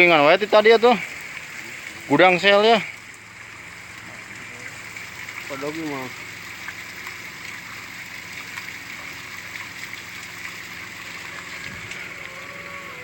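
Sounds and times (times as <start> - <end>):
flowing water: 0.0 - 13.0.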